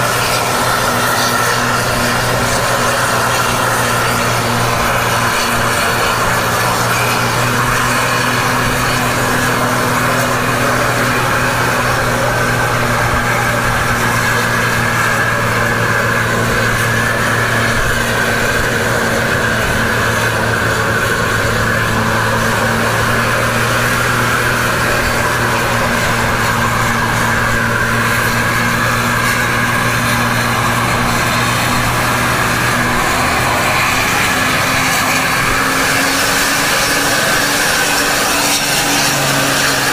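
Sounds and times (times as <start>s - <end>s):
coach engine climbing under load: 0.0s - 39.9s.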